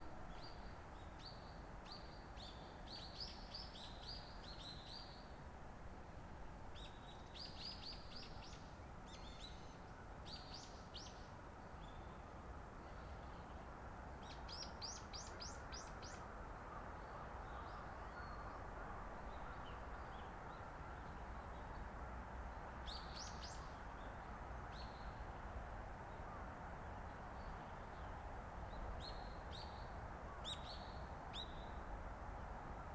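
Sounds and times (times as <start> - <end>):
outdoor background hiss: 0.0 - 32.9.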